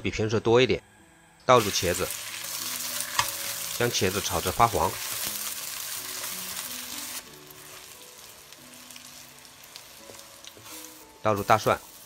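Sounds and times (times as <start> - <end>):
soft background music: 0.0 - 12.0
eggplant sizzling in oil: 1.6 - 12.0.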